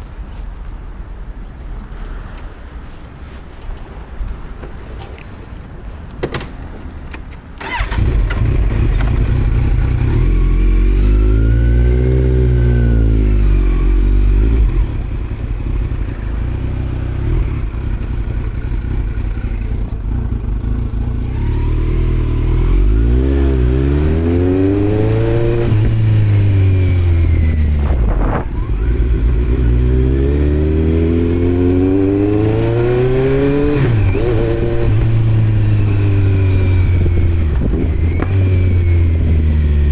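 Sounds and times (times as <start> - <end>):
motorcycle engine revving: 7.6 - 39.9.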